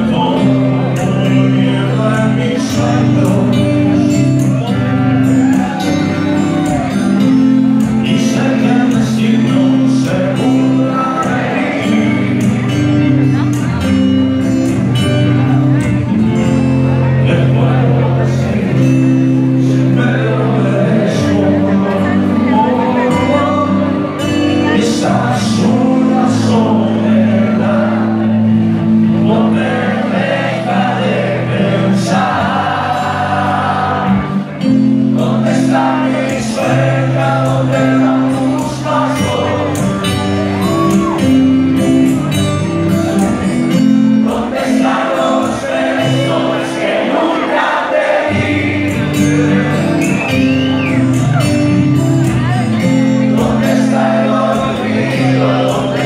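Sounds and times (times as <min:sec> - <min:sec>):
live rock band playing: 0:00.0 - 0:56.0
man singing: 0:00.0 - 0:56.0.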